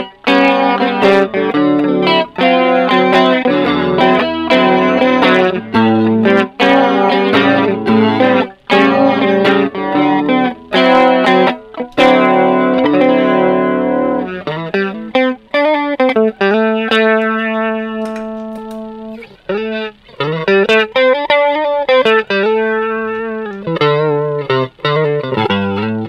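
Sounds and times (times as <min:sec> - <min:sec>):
electric guitar with chorus effect: 0:00.0 - 0:26.0.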